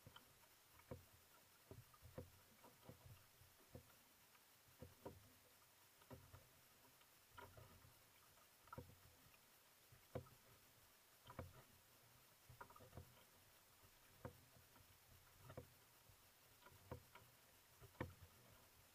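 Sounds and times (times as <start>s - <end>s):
paddle splashing in water: 0.0s - 4.0s, 4.7s - 18.9s.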